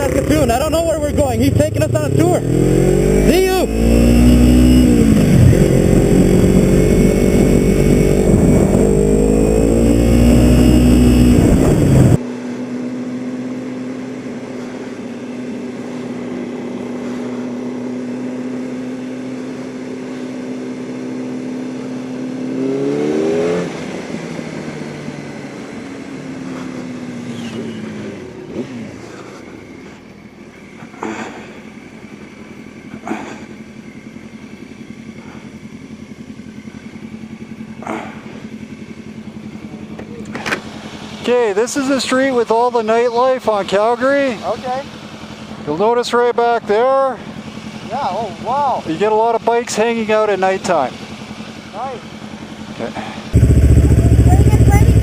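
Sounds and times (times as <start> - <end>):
motorcycle engine revving: 0.0 - 12.2, 13.0 - 55.0.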